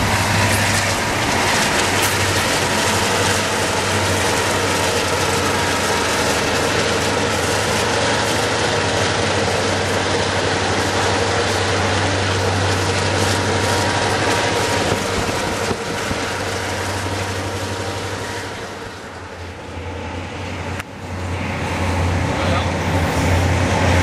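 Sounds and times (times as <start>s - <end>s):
diesel locomotive engines droning: 0.0s - 24.0s
distant engine rumble: 0.0s - 24.0s
train wheel and rail noise: 0.0s - 24.0s.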